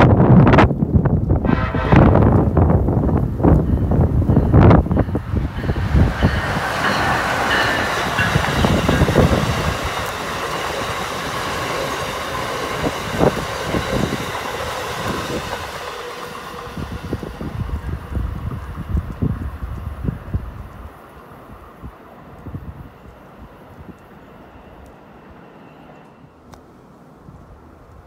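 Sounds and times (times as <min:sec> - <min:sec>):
train wheels running on rails: 0:00.0 - 0:28.0.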